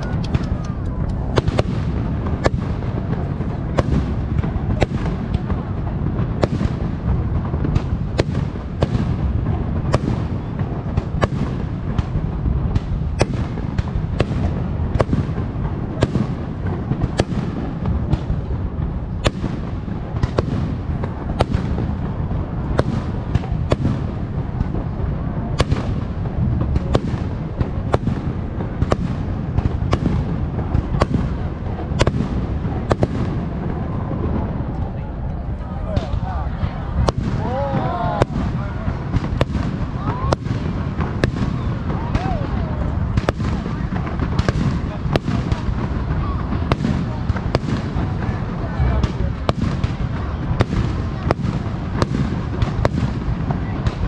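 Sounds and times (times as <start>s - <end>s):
fireworks bursting with sharp bangs: 0.0s - 54.0s
low rumble of distant bursts: 0.0s - 54.0s.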